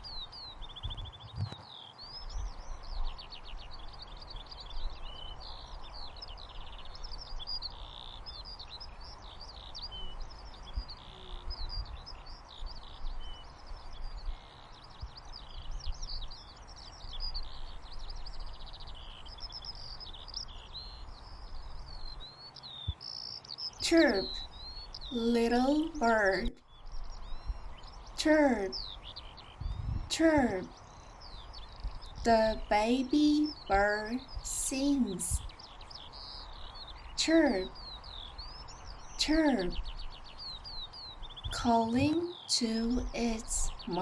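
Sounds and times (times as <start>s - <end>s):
background white noise hiss: 0.0s - 44.0s
small birds chirping: 0.0s - 44.0s.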